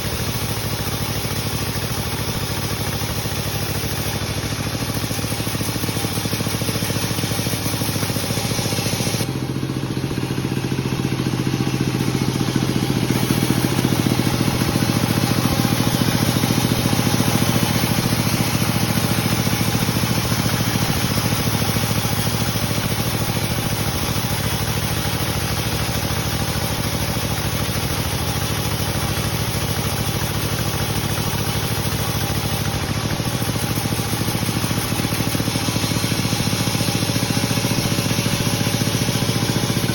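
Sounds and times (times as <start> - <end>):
broad hiss: 0.0 - 39.9
sawmill machinery drone: 0.0 - 39.9.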